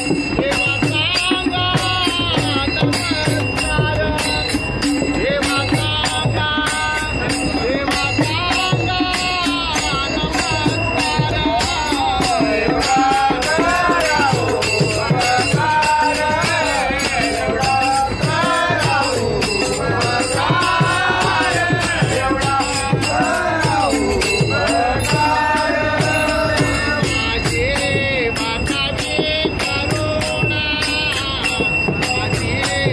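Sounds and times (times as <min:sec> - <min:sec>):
small hand cymbals: 0:00.0 - 0:32.9
voices singing devotional song: 0:00.0 - 0:32.9.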